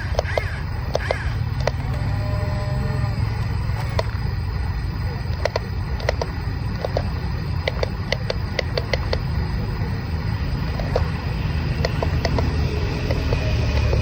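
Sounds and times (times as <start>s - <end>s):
toy excavator rumble: 0.0s - 14.0s.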